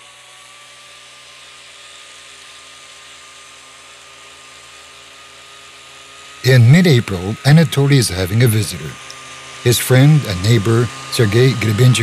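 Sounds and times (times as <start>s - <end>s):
small engine running: 0.0s - 12.0s
thin whine: 0.0s - 12.0s.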